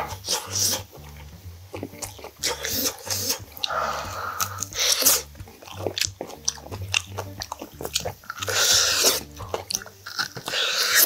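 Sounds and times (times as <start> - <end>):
close chewing and mouth smacks: 0.0 - 11.0.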